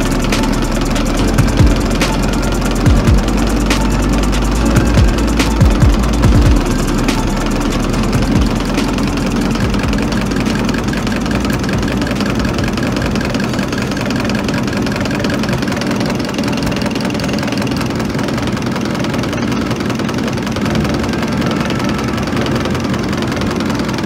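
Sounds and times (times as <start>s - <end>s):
machine drone: 0.0s - 24.0s.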